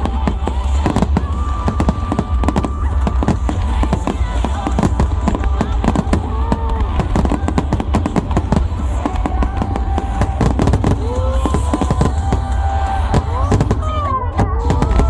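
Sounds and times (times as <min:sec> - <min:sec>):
deep rumble: 0:00.0 - 0:15.0
fireworks bursting and crackling: 0:00.0 - 0:15.0
music with sung melody: 0:00.0 - 0:15.0.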